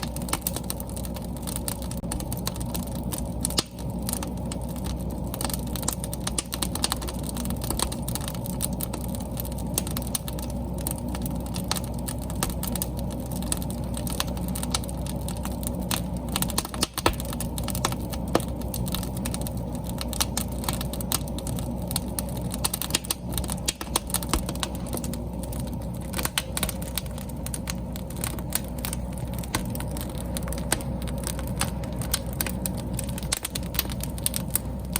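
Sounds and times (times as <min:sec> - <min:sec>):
crackles and pops of burning logs: 0:00.0 - 0:34.9
low rush of flame: 0:00.0 - 0:34.9.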